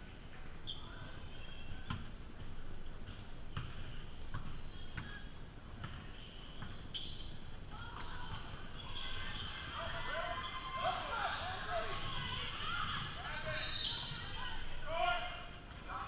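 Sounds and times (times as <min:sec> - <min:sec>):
sneaker squeaks: 0:00.6 - 0:15.7.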